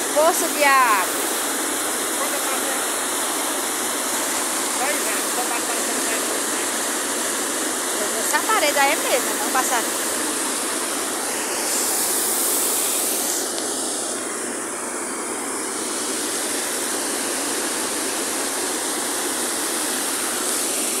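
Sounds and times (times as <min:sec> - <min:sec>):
floodwater rushing over spillway: 0:00.0 - 0:21.0.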